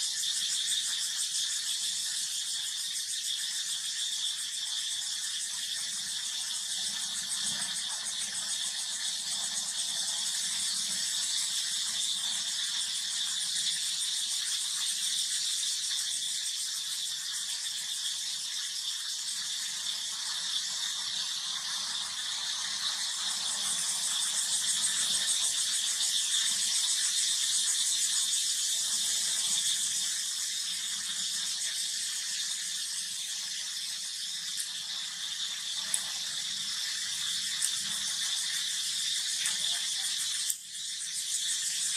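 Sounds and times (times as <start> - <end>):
shrill insect chorus: 0.0 - 41.9.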